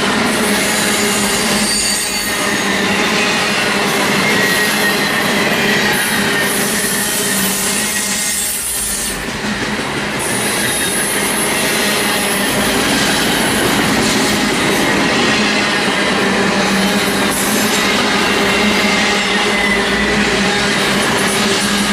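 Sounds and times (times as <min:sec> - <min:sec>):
steel wheels rolling on rail: 0:00.0 - 0:21.9
train wheels squealing: 0:00.0 - 0:21.9.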